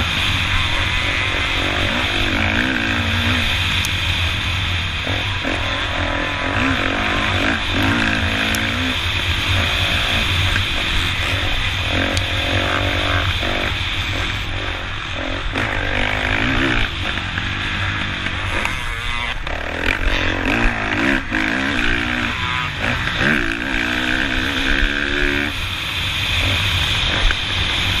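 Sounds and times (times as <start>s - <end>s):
dirt bike engine revving: 0.0s - 28.0s
wind on microphone: 0.0s - 28.0s.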